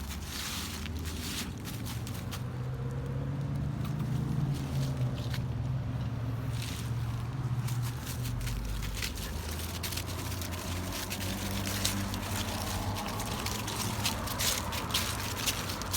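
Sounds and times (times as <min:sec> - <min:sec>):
footsteps crunching dry leaves: 0:00.0 - 0:02.7, 0:03.8 - 0:15.9.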